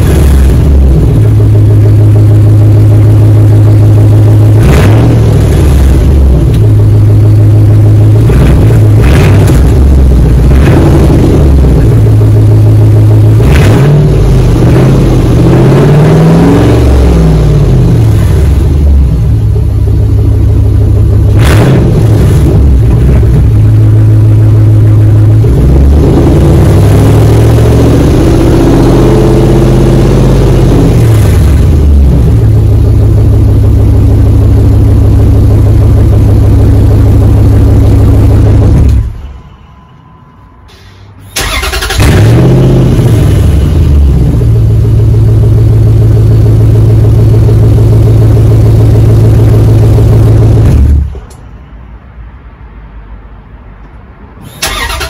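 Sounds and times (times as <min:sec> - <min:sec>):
loud truck exhaust idling and revving: 0:00.0 - 0:40.0, 0:40.7 - 0:51.7.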